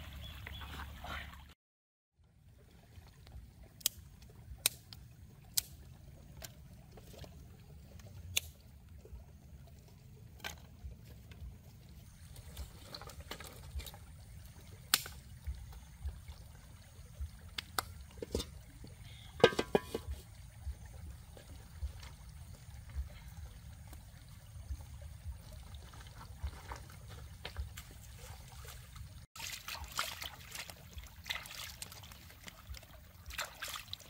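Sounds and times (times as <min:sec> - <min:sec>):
stream running over stones: 0:02.4 - 0:34.0.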